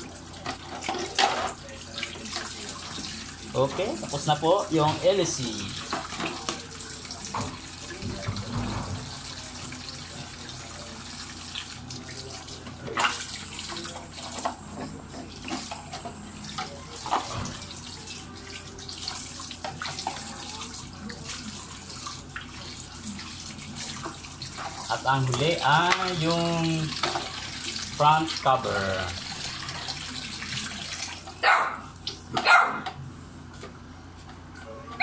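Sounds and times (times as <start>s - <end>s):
water splashing into sink: 0.0s - 32.4s.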